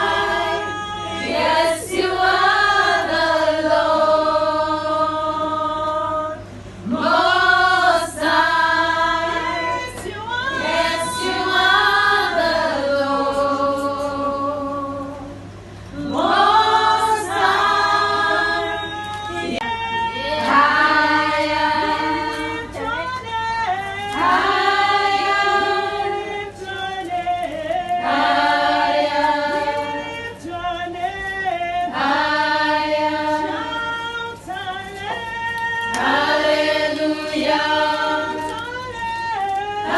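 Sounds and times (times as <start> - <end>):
group of people singing: 0.0 - 39.9.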